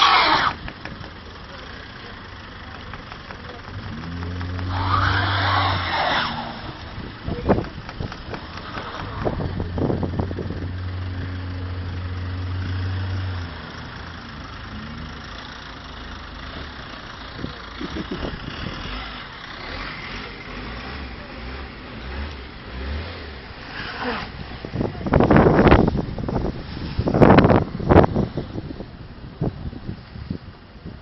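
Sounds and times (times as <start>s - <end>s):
car engine running: 0.0s - 30.3s
road noise: 0.0s - 31.0s.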